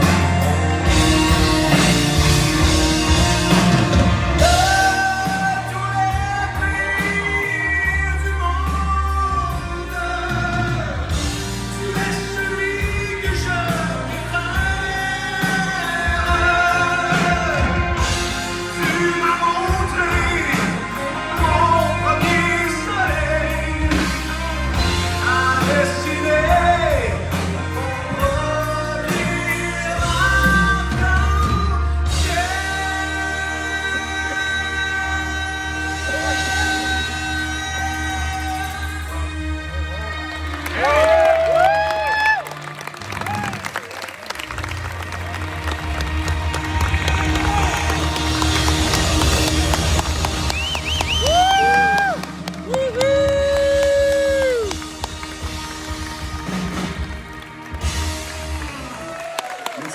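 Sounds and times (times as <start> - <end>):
bass: 0.0 - 59.9
drums: 0.0 - 59.9.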